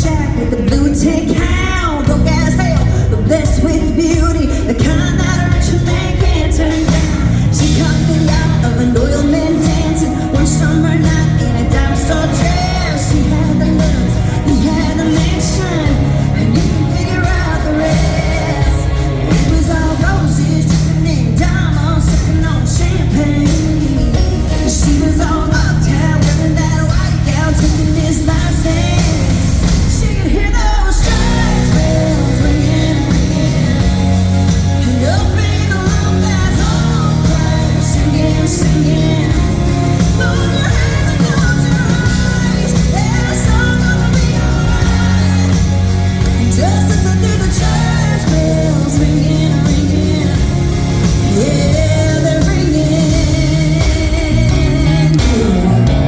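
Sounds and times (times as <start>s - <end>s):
live country band playing: 0.0s - 56.0s
woman singing: 0.0s - 56.0s.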